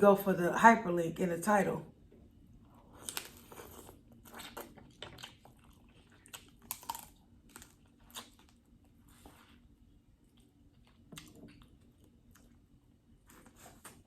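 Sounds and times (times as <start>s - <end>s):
chewing and crunching: 2.6s - 14.0s.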